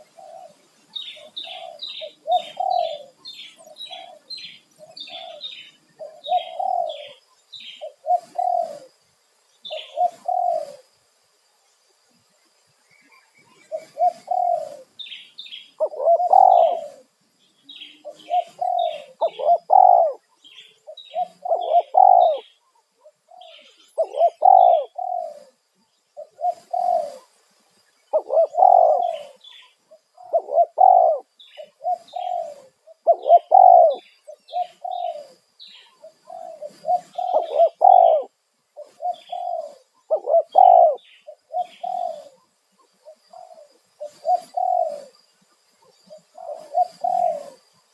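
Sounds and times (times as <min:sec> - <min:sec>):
doves cooing: 0:00.0 - 0:09.0, 0:09.7 - 0:10.9, 0:13.4 - 0:15.0, 0:15.8 - 0:17.2, 0:17.9 - 0:25.6, 0:26.2 - 0:27.4, 0:28.1 - 0:47.8
small birds chirping: 0:00.0 - 0:11.0, 0:12.4 - 0:47.9.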